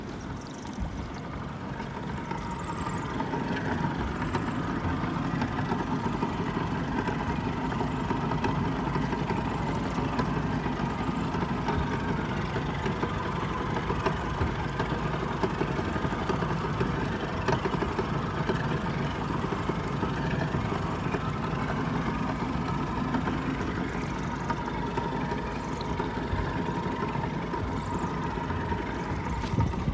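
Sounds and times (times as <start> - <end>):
engine knocking: 0.0 - 29.9
outboard motor running: 0.0 - 29.9.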